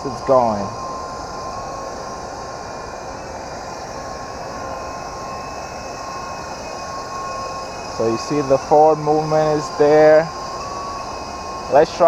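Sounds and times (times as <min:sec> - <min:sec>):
toy helicopter motors whining: 0:00.0 - 0:12.0.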